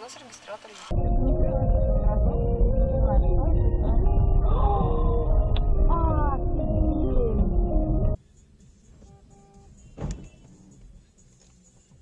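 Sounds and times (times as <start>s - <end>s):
muffled bass-heavy music: 0.9s - 12.0s.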